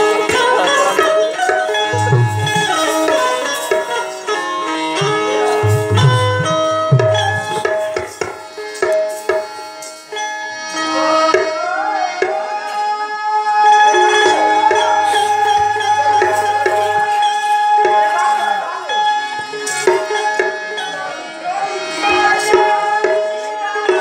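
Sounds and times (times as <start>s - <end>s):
harmonium melody: 0.0s - 24.0s
tabla and dholak drumming: 0.0s - 24.0s.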